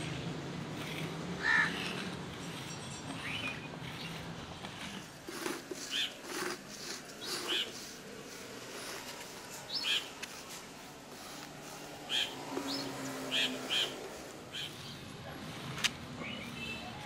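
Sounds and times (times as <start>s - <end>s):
birds chirping: 0.0s - 4.8s, 5.8s - 15.1s, 16.1s - 17.0s.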